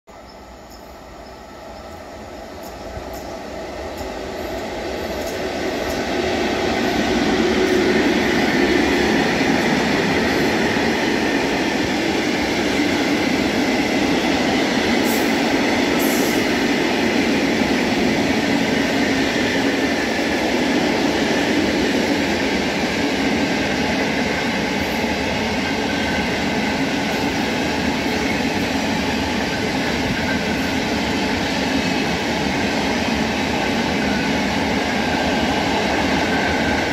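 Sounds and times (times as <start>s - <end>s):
freight train rolling past: 0.1s - 36.9s.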